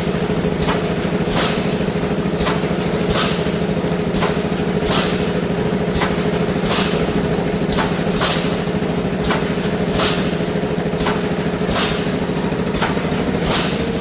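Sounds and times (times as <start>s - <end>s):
welding machine humming: 0.0s - 14.0s
sharp machine stroke: 0.5s - 14.0s.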